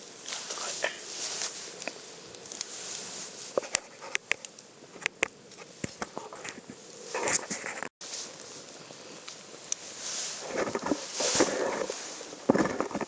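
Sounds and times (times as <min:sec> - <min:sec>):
soft hiss: 0:00.0 - 0:12.5
burning wood crackling: 0:00.0 - 0:13.0.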